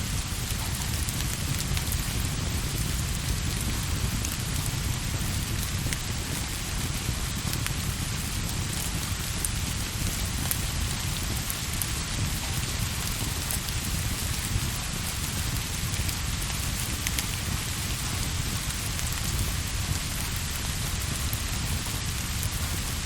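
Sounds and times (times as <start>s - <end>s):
rain falling: 0.1s - 23.0s.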